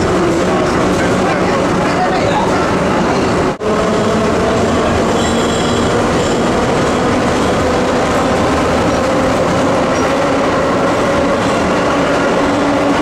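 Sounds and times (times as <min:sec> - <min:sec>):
subway train wheels rumbling and rattling: 0:00.0 - 0:13.0.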